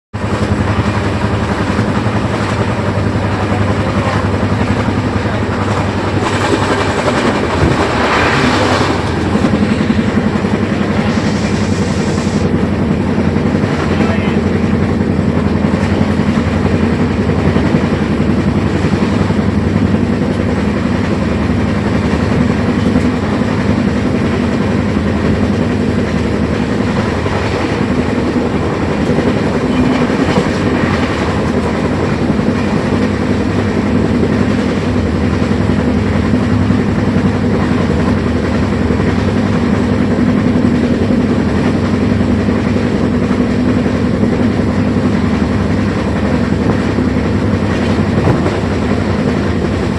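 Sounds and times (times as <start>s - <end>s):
train rumbling on track: 0.1s - 49.9s.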